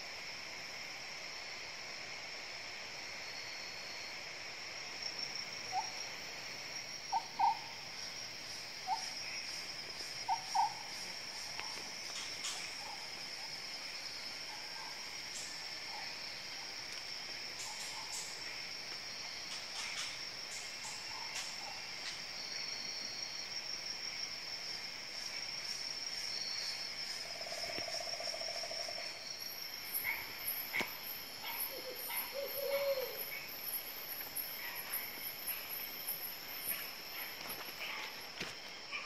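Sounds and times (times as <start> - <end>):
insect chorus drone: 0.0 - 39.0.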